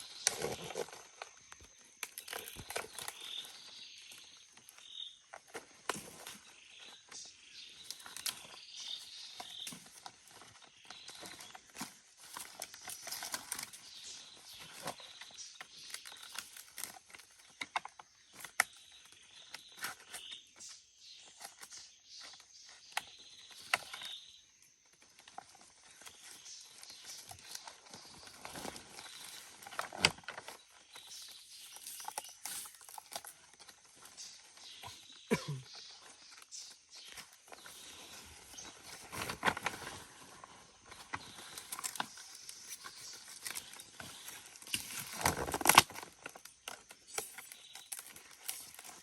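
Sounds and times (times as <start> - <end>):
hands and tools rustling: 0.0 - 20.7, 24.9 - 49.0.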